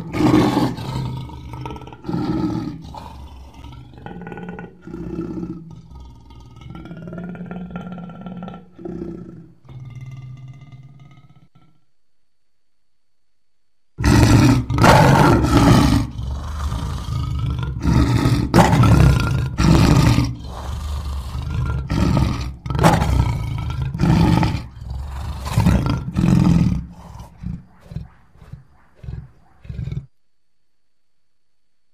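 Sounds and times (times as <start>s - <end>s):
lion grunting: 0.0s - 11.8s, 14.0s - 30.2s
lion roaring: 0.0s - 11.8s, 14.0s - 30.2s.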